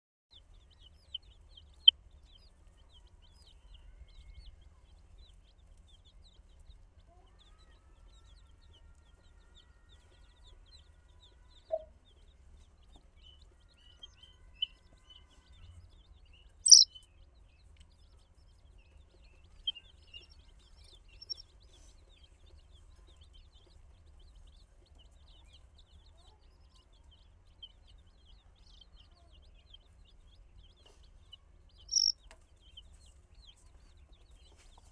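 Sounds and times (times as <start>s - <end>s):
baby chicks peeping: 0.3s - 34.9s.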